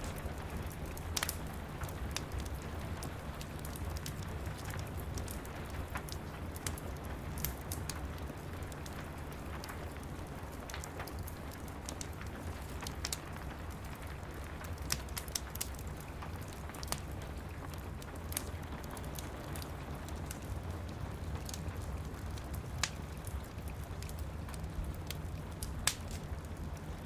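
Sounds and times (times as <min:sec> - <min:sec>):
steady rain: 0:00.0 - 0:27.0
wood fire crackling: 0:00.0 - 0:27.0.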